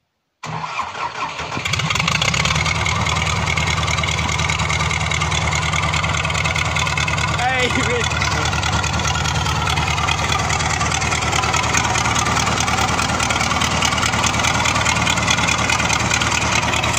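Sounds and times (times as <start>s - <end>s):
tractor diesel engine idling: 0.4s - 16.9s.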